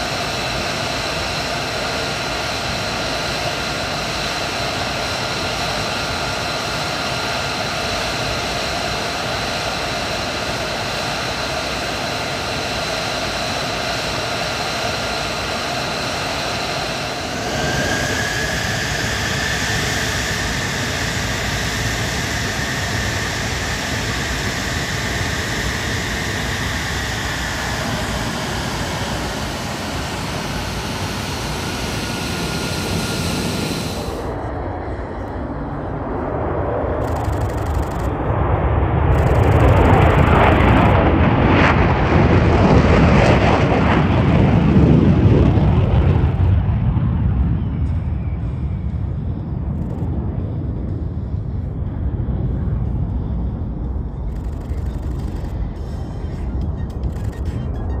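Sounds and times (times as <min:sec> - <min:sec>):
jet engine running with high whine: 0:00.0 - 0:58.0.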